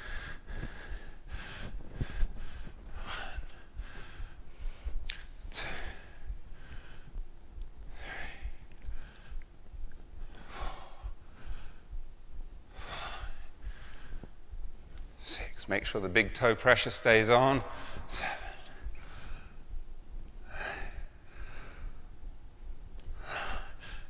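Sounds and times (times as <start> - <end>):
man breathing hard: 0.0 - 9.5, 10.2 - 12.1, 12.7 - 15.6, 17.5 - 19.8, 20.4 - 24.0.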